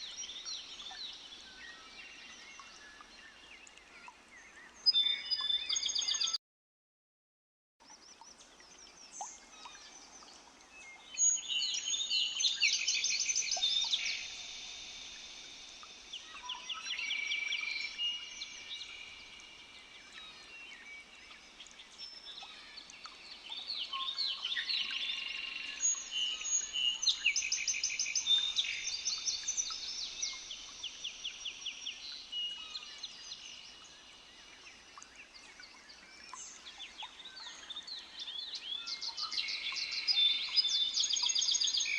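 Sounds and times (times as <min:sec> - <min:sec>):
birds singing and chirping: 0:00.0 - 0:06.4, 0:08.2 - 0:41.9.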